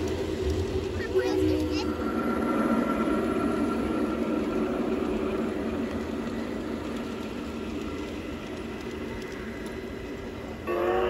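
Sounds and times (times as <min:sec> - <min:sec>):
model trains rumbling on track: 0:00.0 - 0:11.0.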